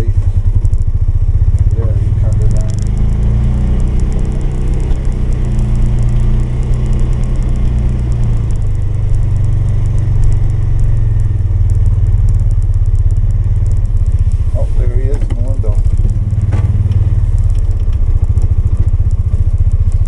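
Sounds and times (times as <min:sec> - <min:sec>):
single-cylinder engine running: 0:00.0 - 0:20.0.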